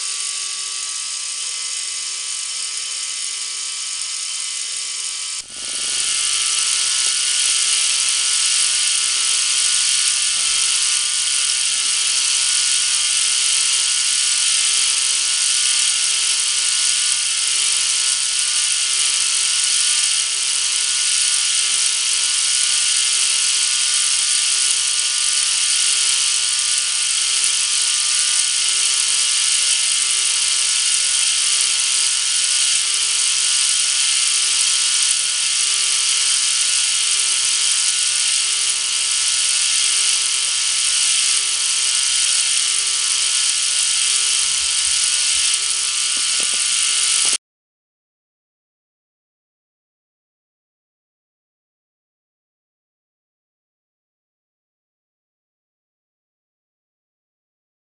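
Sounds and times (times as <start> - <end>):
toy motor and gears whirring: 0.0 - 47.4.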